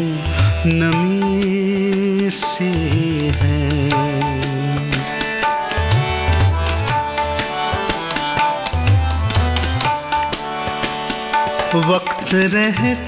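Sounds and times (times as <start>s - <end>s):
harmonium chords: 0.0s - 13.0s
tabla playing: 0.0s - 13.0s.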